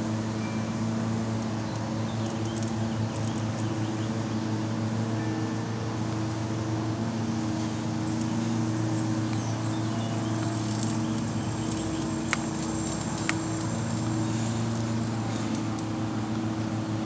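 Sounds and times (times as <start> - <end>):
lawn mower engine droning: 0.0 - 17.0.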